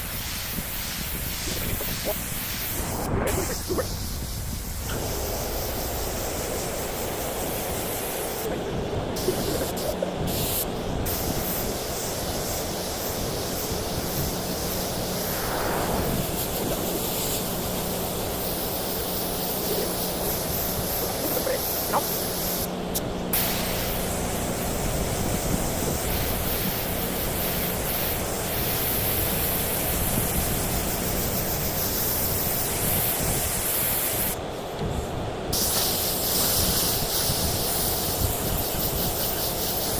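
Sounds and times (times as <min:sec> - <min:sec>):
spray gun hissing: 0:00.0 - 0:39.9.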